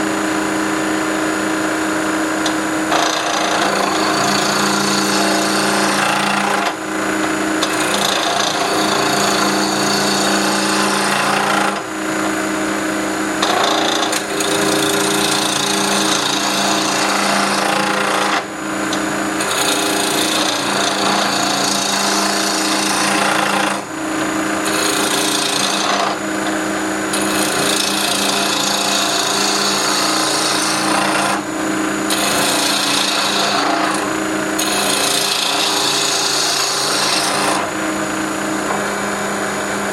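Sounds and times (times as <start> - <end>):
lathe motor hum: 0.0 - 39.9
lathe tool scraping wood: 2.4 - 11.9, 13.4 - 39.9.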